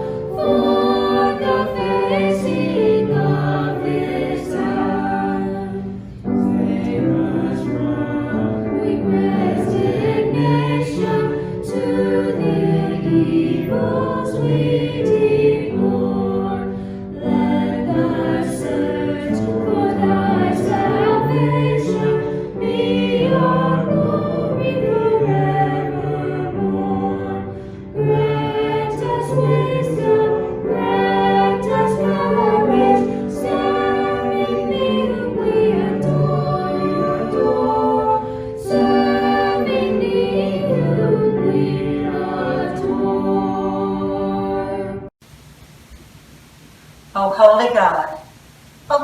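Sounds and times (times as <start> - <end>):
choir singing: 0.0 - 45.1.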